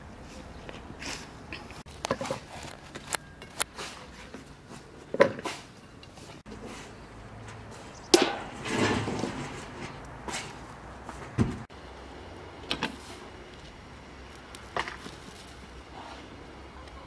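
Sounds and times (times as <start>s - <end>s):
rustling and scraping: 0.2s - 11.7s, 12.8s - 16.2s.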